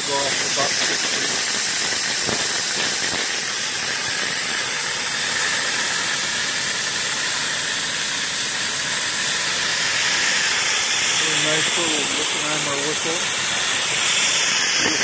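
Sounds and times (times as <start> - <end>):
safety valves hissing steam: 0.0 - 15.0.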